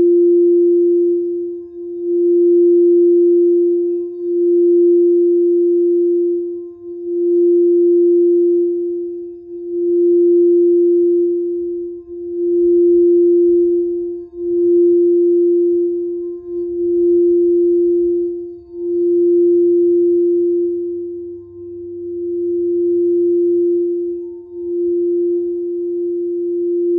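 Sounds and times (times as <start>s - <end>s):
singing bowl ringing tone: 0.0s - 26.9s.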